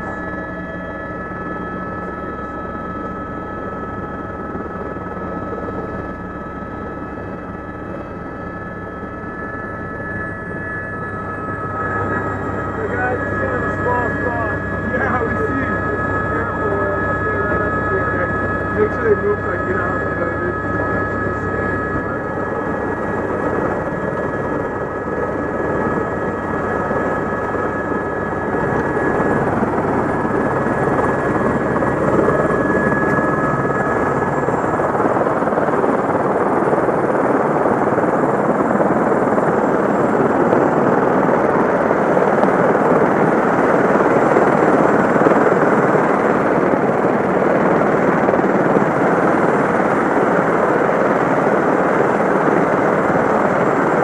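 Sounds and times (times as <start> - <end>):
helicopter turbine and rotors: 0.0 - 54.0.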